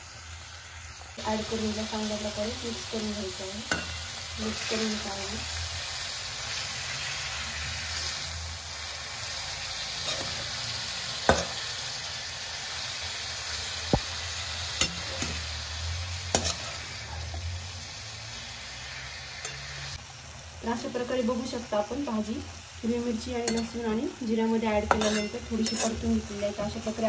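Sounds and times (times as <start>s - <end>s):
spinach sizzling in hot oil: 0.0s - 27.0s.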